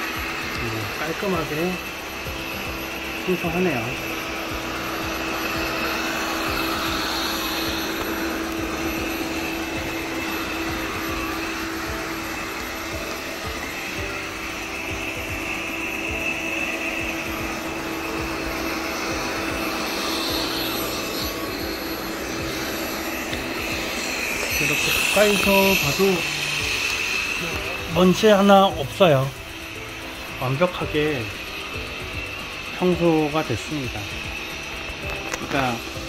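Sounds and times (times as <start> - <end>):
robot vacuum whirring hum: 0.0 - 36.0.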